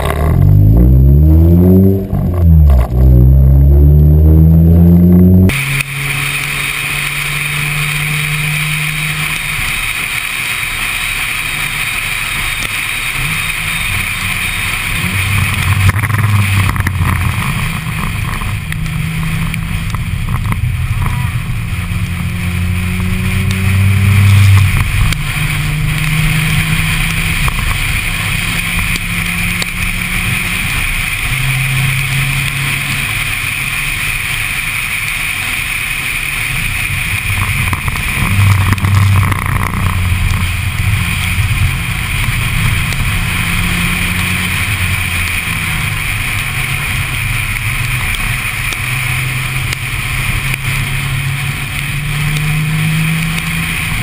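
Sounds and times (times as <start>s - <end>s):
rotary engine revving: 0.0s - 54.0s
wet road noise: 0.0s - 54.0s.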